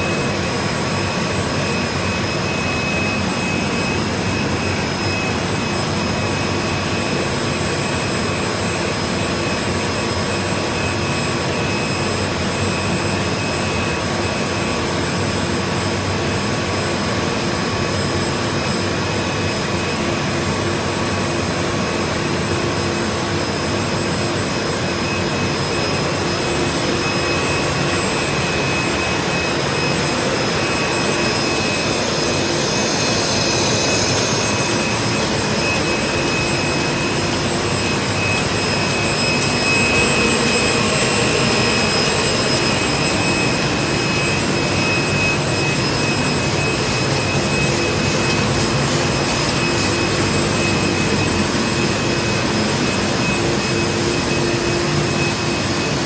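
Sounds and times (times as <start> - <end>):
faint high whine: 0.0 - 56.0
printing press whirring: 0.0 - 56.0.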